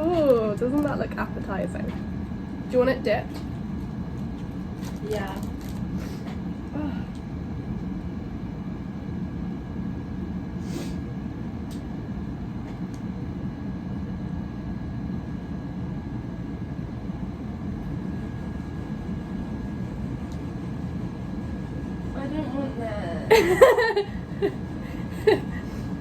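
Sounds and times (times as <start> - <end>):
low machine rumble: 0.0 - 26.0.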